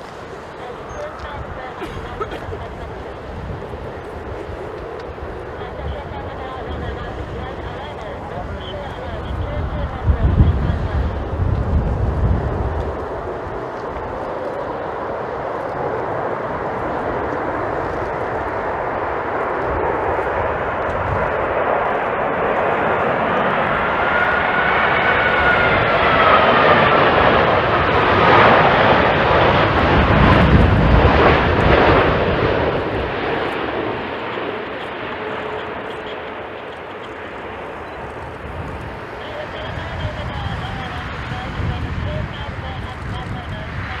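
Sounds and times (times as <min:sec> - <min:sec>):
jet engine whine: 0:00.0 - 0:44.0
jet engines roaring: 0:00.0 - 0:44.0.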